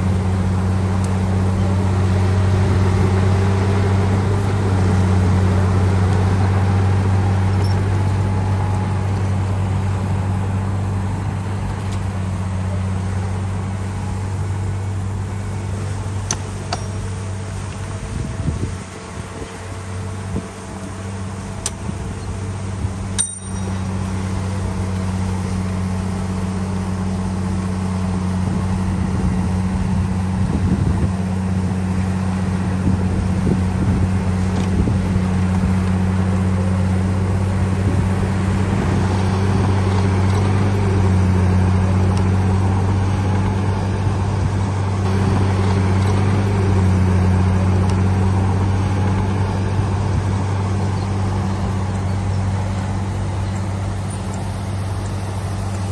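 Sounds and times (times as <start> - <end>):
bulldozer diesel engine droning: 0.0 - 55.9.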